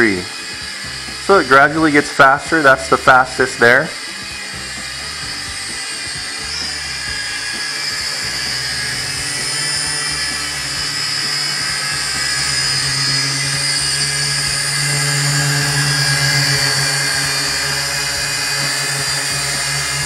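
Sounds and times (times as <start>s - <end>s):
quadcopter propellers whining: 0.0s - 20.0s.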